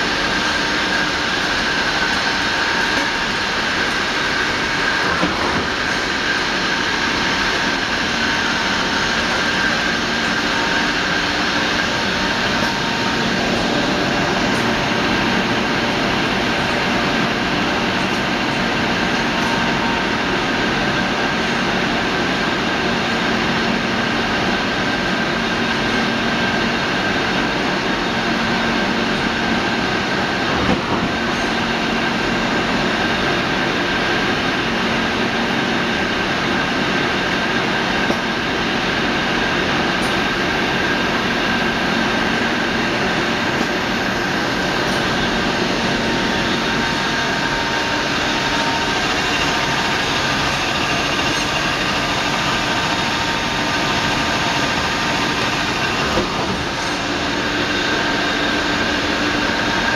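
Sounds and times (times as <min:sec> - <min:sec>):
high machine whine: 0:00.0 - 0:59.9
lathe spindles turning and cutting: 0:00.0 - 0:59.9.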